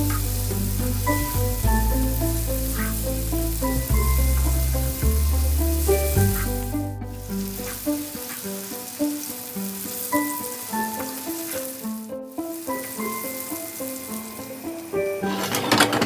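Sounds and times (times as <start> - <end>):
food sizzling in a pan: 0.0 - 15.3
background music: 0.0 - 16.0.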